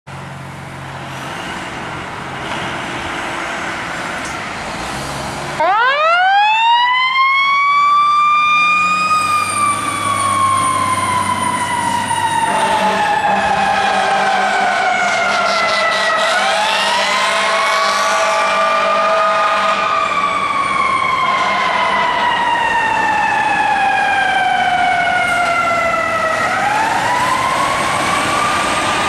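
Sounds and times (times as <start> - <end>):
fire engine running: 0.1 - 29.0
mechanical siren wailing: 5.6 - 29.0.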